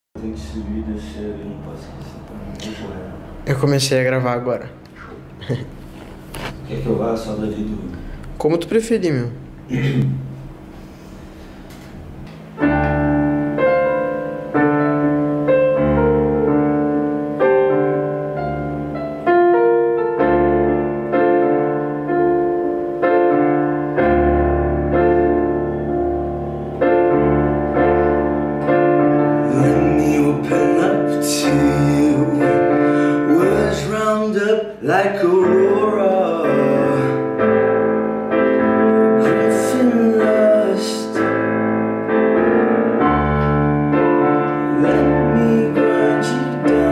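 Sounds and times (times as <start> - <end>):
electric keyboard piano chords: 0.2 - 46.9.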